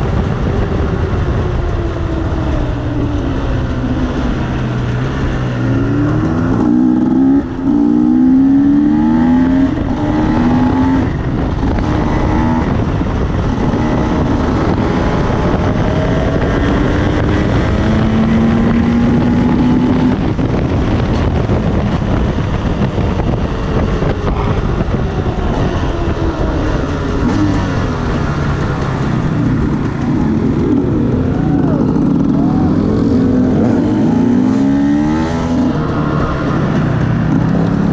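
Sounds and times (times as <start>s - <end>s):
dirt bike engines revving: 3.2s - 37.9s.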